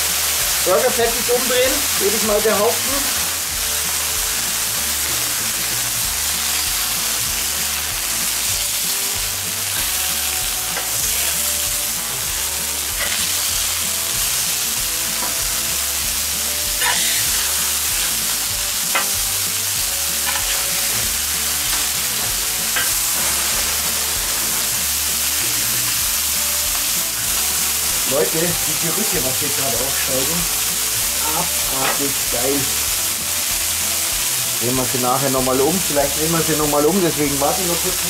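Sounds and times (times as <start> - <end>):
meat sizzling on hot plate: 0.0 - 38.0.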